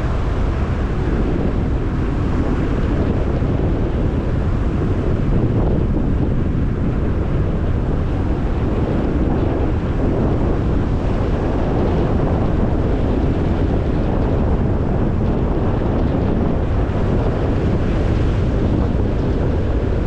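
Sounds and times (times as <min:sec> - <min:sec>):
tyre road noise: 0:00.0 - 0:20.0
wind rush over microphone: 0:00.0 - 0:20.0.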